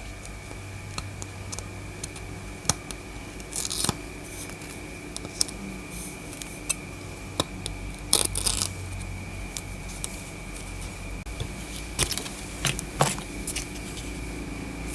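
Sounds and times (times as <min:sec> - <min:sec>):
steady hum with high whine: 0:00.0 - 0:14.9.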